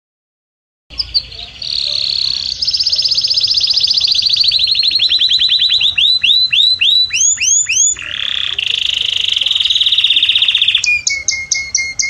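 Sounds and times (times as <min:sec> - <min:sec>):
canary singing trills: 0:00.9 - 0:12.0.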